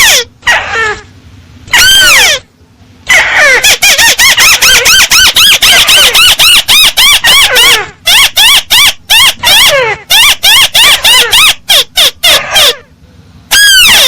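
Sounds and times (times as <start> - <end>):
bird calling with squealing notes: 0.0 - 1.0, 1.7 - 2.5, 3.1 - 12.9, 13.5 - 14.0.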